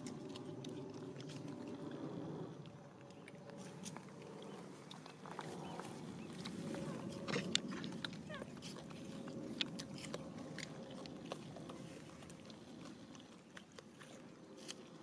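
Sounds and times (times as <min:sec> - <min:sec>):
monkey chewing fruit: 0:00.0 - 0:15.0.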